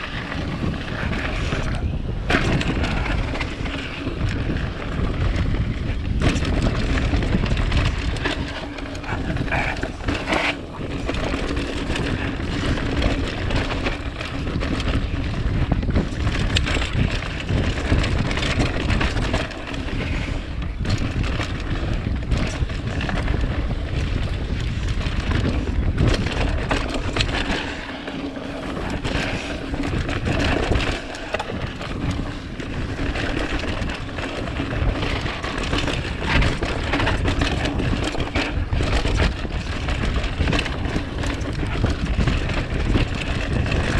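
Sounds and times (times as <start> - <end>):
bike rattling over bumps: 0.0 - 43.9
tyres rolling over dirt and rocks: 0.0 - 43.9
wind noise on microphone: 0.0 - 43.9.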